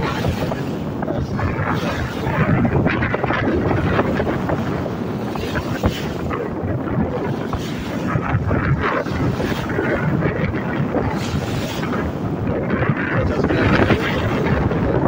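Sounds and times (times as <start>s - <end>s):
sea waves splashing: 0.0s - 15.0s
wind buffeting microphone: 0.0s - 15.0s.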